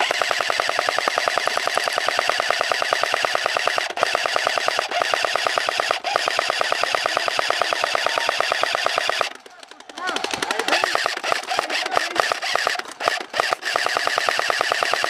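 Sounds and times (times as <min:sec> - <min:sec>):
airsoft gun full-auto burst: 0:00.0 - 0:15.0.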